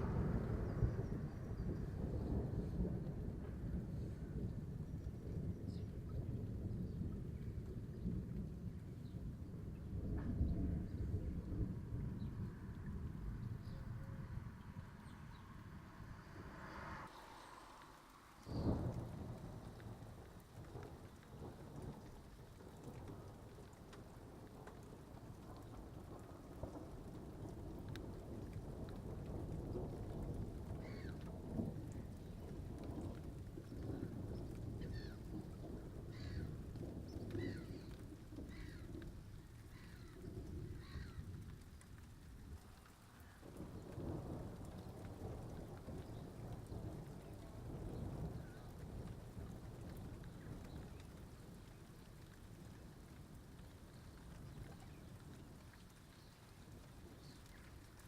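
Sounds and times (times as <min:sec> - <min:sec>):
raindrop ticks: 0:00.0 - 0:14.0, 0:16.6 - 0:58.0
faint rain: 0:00.0 - 0:58.0
thunder rumble: 0:00.0 - 0:58.0.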